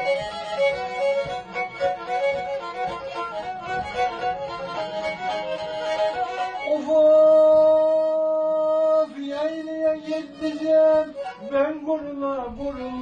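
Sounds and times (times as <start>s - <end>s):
bowed lute playing solo: 0.0s - 8.4s, 9.6s - 12.0s.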